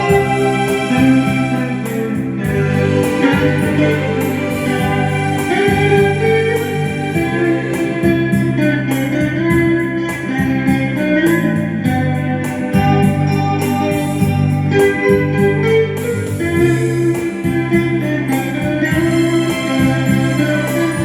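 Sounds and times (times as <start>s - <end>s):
bass line: 0.0s - 21.0s
solo guitar melody: 0.0s - 21.0s
sustained keyboard chords: 0.0s - 21.0s.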